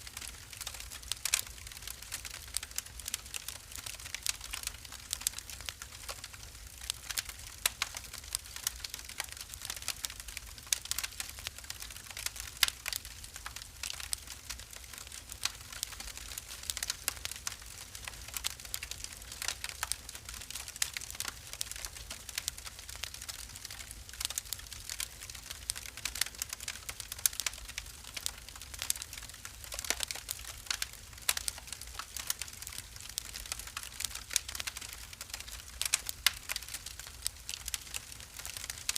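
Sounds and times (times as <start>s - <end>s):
soft steady hiss: 0.0s - 38.9s
wood fire crackling: 0.0s - 38.9s.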